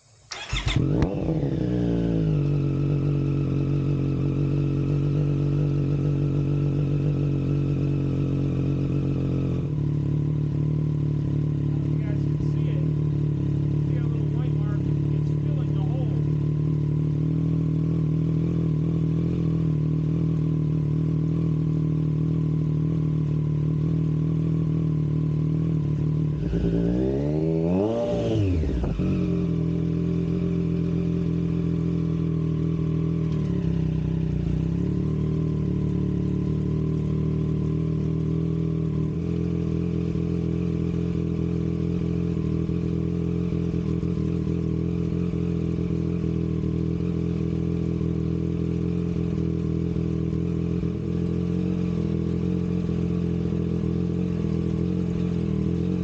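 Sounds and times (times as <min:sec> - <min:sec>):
motorcycle engine idling: 0:00.0 - 0:56.0
motorcycle engine revving: 0:00.0 - 0:56.0.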